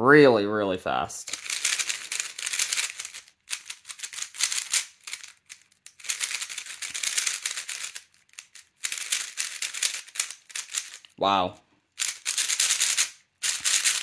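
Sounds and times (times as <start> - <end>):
puzzle cube clicking as turned: 1.3 - 11.2, 12.0 - 14.0.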